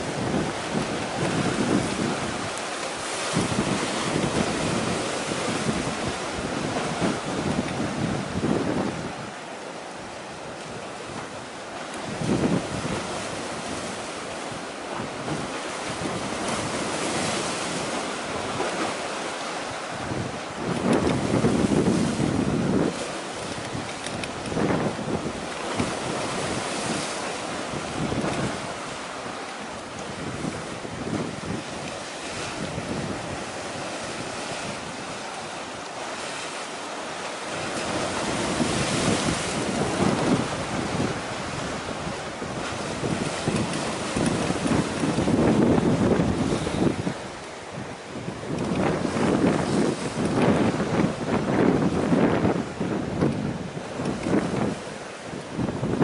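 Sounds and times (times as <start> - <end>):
choppy sea hiss: 0.0 - 56.0
wind gusts on microphone: 0.0 - 56.0.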